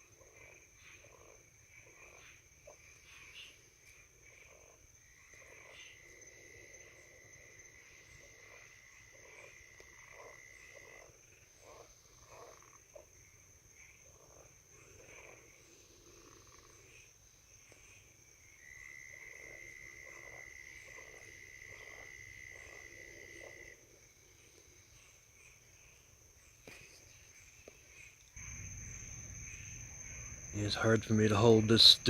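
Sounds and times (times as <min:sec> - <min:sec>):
frogs calling: 0:00.0 - 0:32.0
insects trilling: 0:00.0 - 0:32.0.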